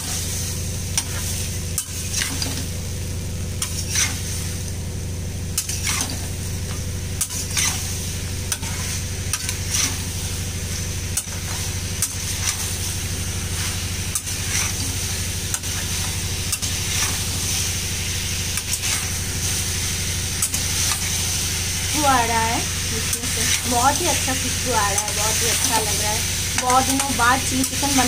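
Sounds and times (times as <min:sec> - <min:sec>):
chicken sizzling in oil: 0:00.0 - 0:28.0
steady low hum: 0:00.0 - 0:28.0.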